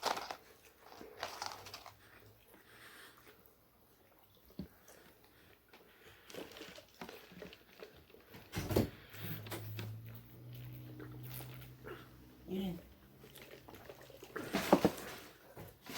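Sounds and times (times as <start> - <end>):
chewing and mouth clicks: 0.1 - 8.5, 9.1 - 12.3, 12.9 - 14.5.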